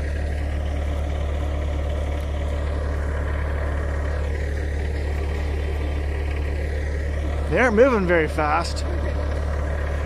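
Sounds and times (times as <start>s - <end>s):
skid steer engine idling: 0.0s - 10.0s.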